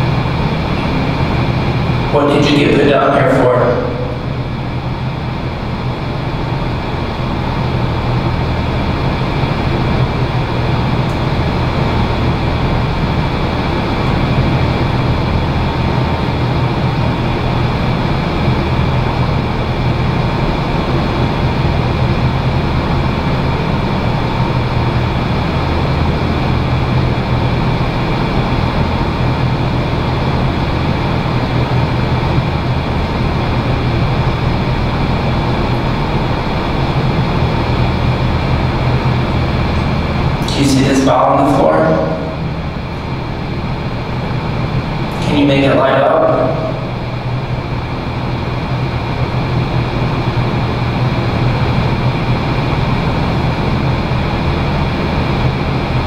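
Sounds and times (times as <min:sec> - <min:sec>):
low droning hum: 0:00.0 - 0:56.0.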